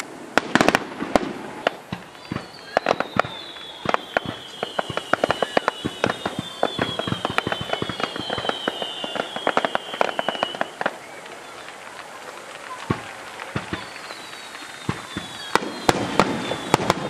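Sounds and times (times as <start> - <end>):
firework whistles sliding down: 0.0 - 17.0
fireworks banging and popping: 0.0 - 17.0.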